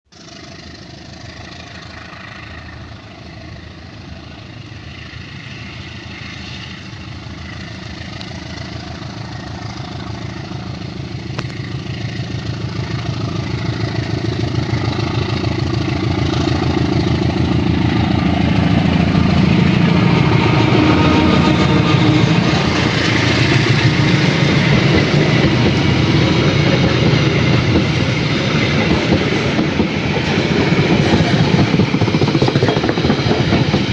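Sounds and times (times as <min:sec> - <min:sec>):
diesel locomotive engine running: 0:00.1 - 0:33.9.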